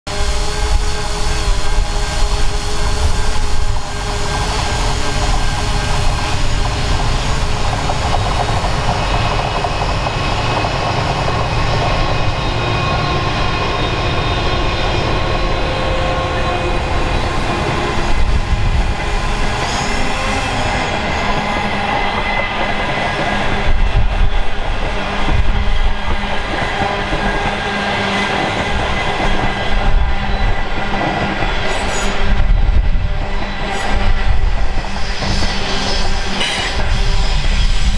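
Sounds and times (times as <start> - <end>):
diesel locomotives passing: 0.1 - 37.9
wheel-on-rail noise: 1.0 - 32.2.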